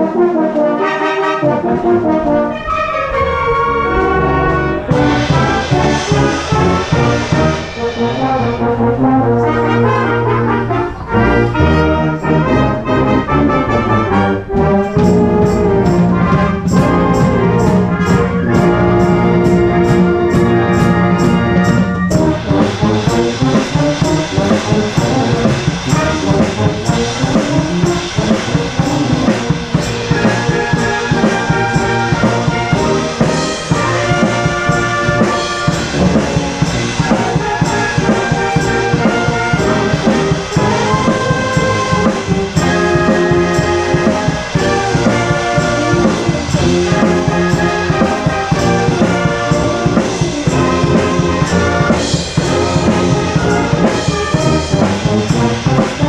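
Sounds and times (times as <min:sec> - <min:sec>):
drum kit: 0:00.0 - 0:56.0
wind band playing: 0:00.0 - 0:56.0
cymbal strokes: 0:04.0 - 0:56.0.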